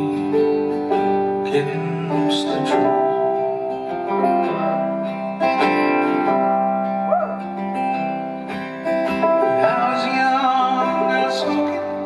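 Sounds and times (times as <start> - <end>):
guitars strumming: 0.0 - 12.0
live band playing: 2.3 - 12.0.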